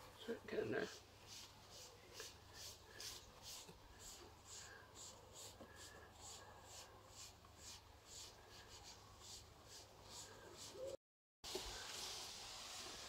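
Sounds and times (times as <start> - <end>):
paper towel wiping griddle: 0.7 - 13.0.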